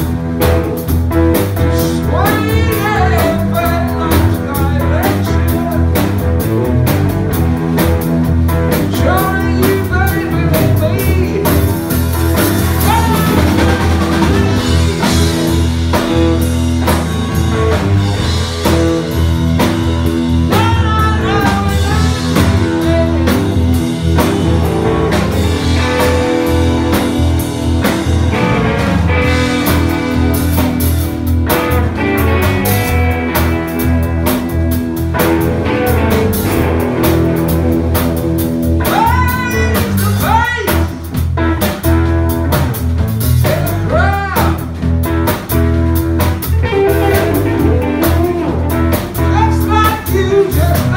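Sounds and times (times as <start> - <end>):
bass guitar: 0.0 - 50.9
drum kit: 0.0 - 50.9
electric guitar lead: 0.0 - 50.9.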